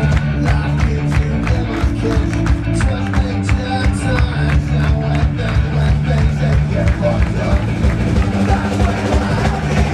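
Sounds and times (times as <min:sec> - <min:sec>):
bass line: 0:00.0 - 0:09.9
drums: 0:00.0 - 0:09.9
guitar: 0:00.0 - 0:09.9
live rock band: 0:00.0 - 0:09.9.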